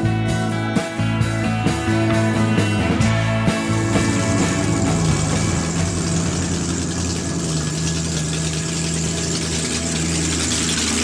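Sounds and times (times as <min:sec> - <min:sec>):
truck engine running: 0:01.0 - 0:11.0.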